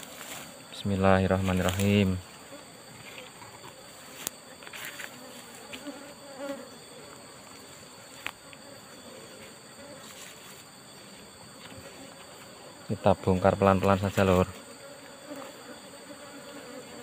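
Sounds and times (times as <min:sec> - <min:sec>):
bees buzzing: 0:00.0 - 0:17.0
high-pitched insect drone: 0:00.0 - 0:17.0.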